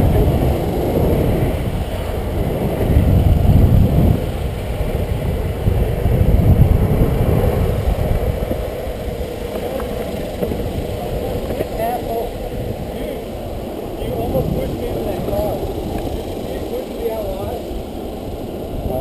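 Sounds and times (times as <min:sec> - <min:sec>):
longboard wheels rolling on asphalt: 0:00.0 - 0:19.0
wind gusting over microphone: 0:00.0 - 0:19.0.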